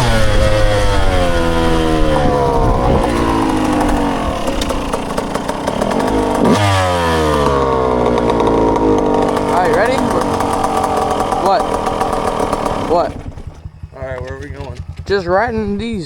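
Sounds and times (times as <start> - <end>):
dirt bike engines running: 0.0 - 16.0.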